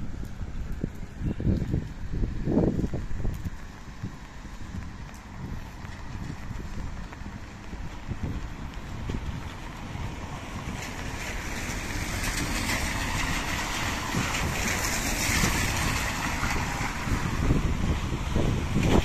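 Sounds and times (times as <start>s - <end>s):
tyres hissing on wet road: 0.0s - 19.0s
wind rumbling on microphone: 0.0s - 19.0s.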